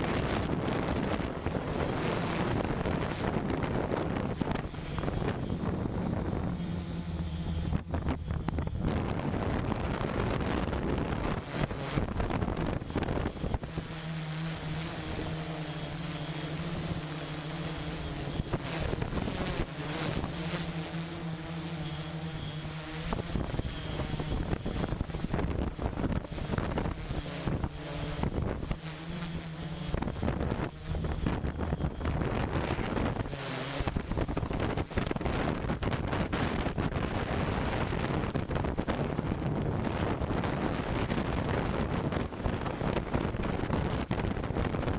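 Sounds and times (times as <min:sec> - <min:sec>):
construction machine engine hum: 0:00.0 - 0:44.9
high-pitched whine: 0:00.0 - 0:44.9
wind buffeting microphone: 0:00.0 - 0:44.9.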